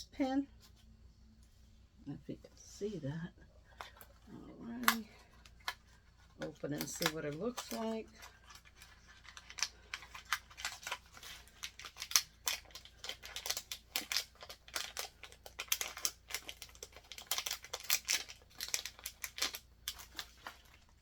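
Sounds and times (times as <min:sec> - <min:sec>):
packaging crinkling and rustling: 0:03.7 - 0:21.0.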